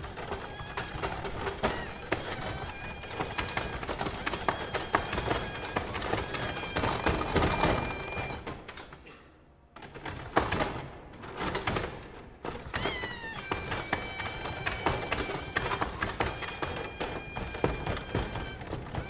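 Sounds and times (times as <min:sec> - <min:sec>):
clattering knocks of rods and ball: 0:00.0 - 0:19.0.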